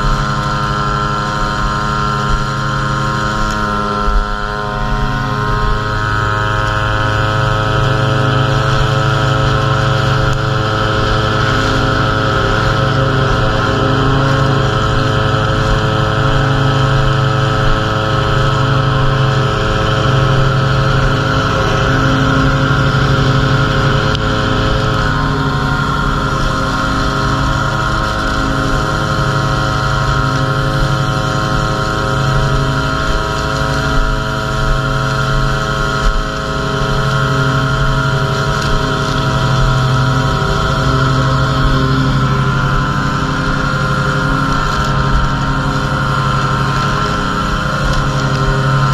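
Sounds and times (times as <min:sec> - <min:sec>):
riding mower engine hum: 0:00.0 - 0:48.9
string trimmer running: 0:00.0 - 0:48.9.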